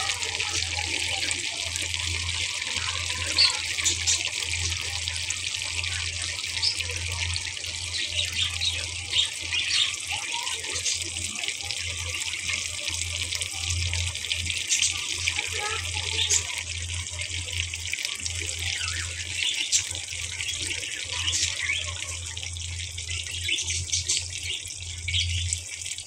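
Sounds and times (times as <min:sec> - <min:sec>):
fish deep-frying in oil: 0:00.0 - 0:26.0.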